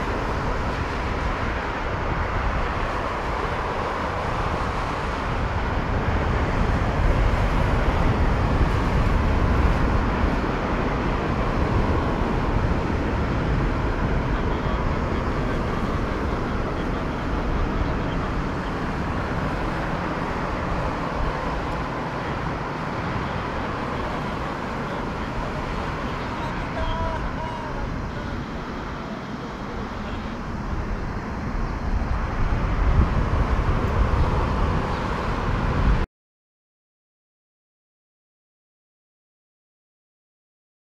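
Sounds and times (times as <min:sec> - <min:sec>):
jet airliner engines rumbling: 0:00.0 - 0:36.1.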